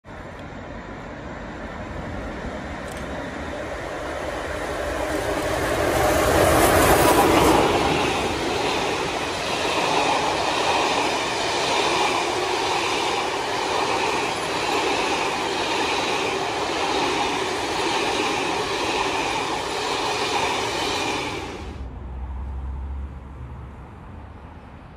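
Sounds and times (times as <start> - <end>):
steam train passing: 0.1 - 22.3.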